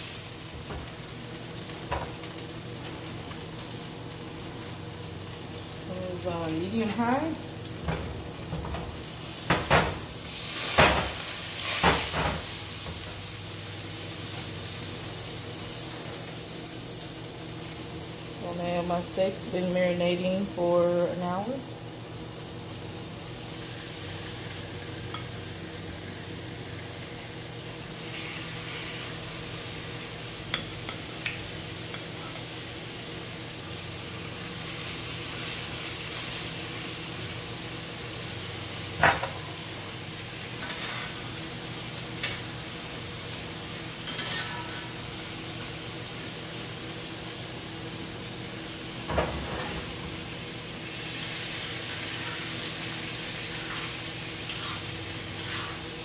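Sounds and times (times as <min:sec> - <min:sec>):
steaks sizzling in a skillet: 0:00.0 - 0:56.0.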